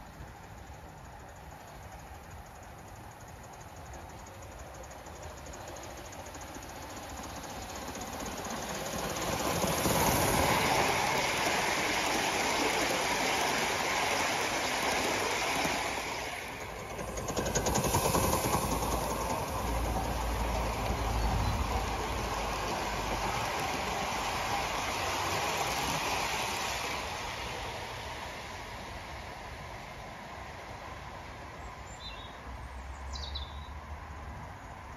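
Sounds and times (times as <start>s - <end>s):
steam locomotive exhaust beats: 0.0s - 32.5s
train wheels on rails: 0.0s - 34.9s.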